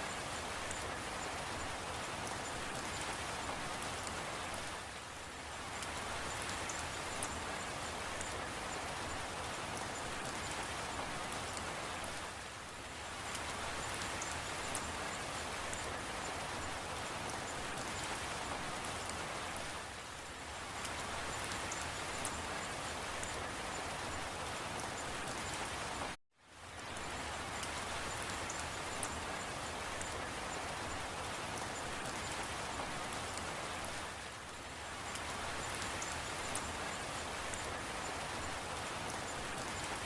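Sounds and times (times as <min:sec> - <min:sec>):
raindrops pattering: 0:00.0 - 0:40.0
steady rain falling: 0:00.0 - 0:40.0.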